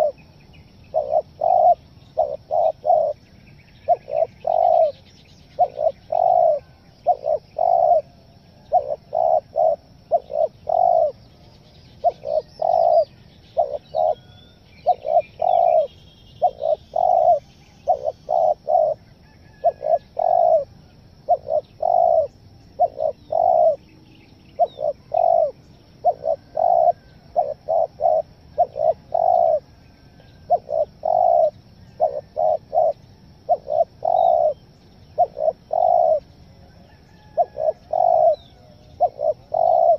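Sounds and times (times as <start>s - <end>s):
dove cooing: 0.0s - 0.2s, 0.8s - 23.9s, 24.5s - 39.9s.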